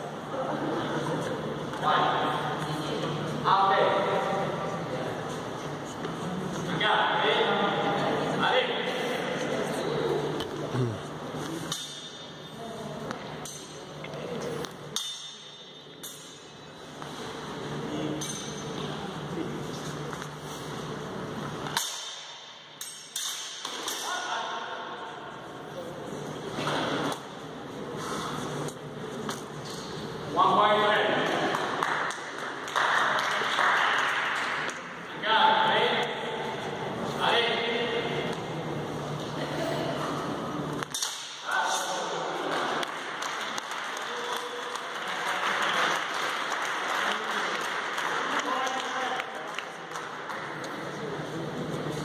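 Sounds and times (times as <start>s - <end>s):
voices in a hall: 0.0s - 52.0s.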